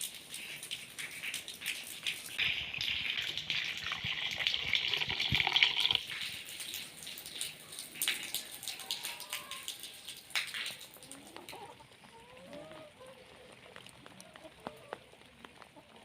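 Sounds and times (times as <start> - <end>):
water dripping: 0.0 - 15.6
water pouring and splashing: 0.0 - 16.0.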